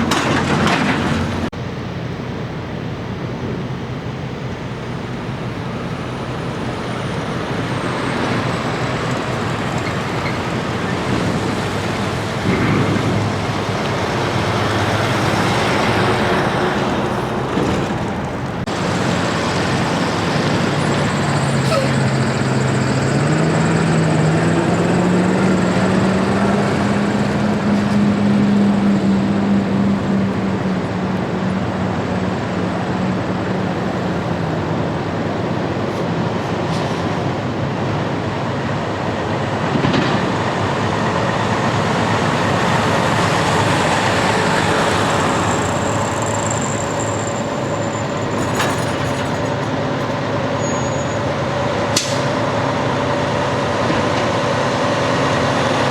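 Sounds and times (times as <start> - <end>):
truck diesel engine accelerating: 0.0 - 55.9
trucks passing with road noise: 0.0 - 55.9.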